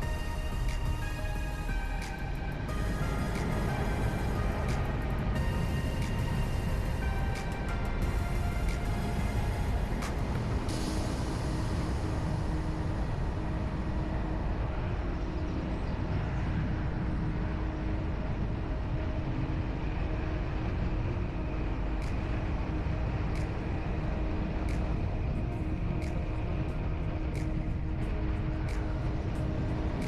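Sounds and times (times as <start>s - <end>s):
engine and road rumble: 0.0s - 30.0s
faint steady hum: 0.0s - 30.0s.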